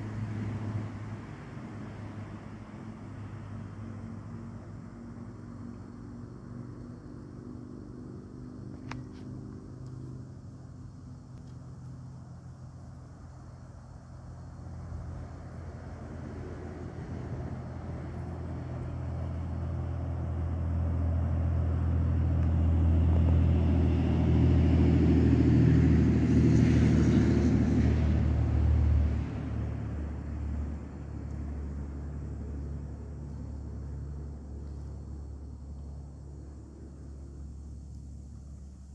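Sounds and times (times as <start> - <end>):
steady low engine hum: 0.0 - 38.9
vehicle engine rumbling past: 0.0 - 38.9.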